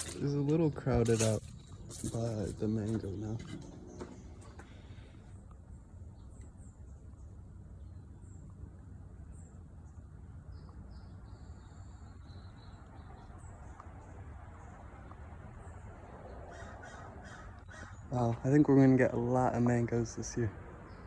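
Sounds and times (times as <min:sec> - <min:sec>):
low steady rumble: 0:00.0 - 0:21.0
small birds chirping faintly: 0:00.0 - 0:21.0.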